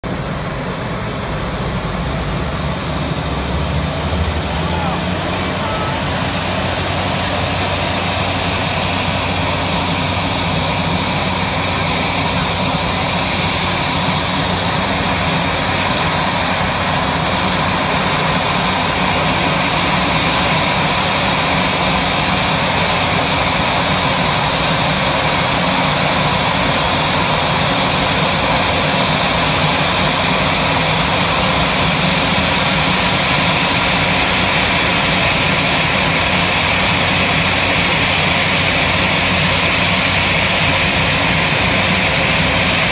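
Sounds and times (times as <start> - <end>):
jet airliner taxiing: 0.0 - 42.9.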